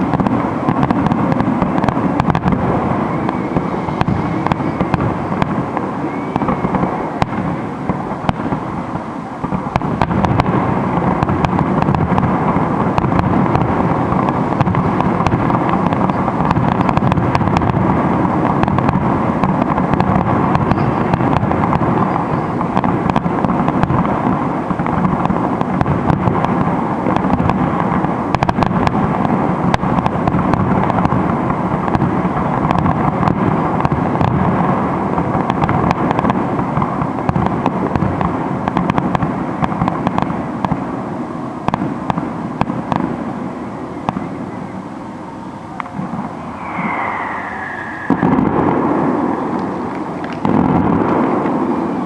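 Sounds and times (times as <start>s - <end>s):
fireworks bursting: 0.0s - 52.0s
fireworks crackling: 0.0s - 52.0s.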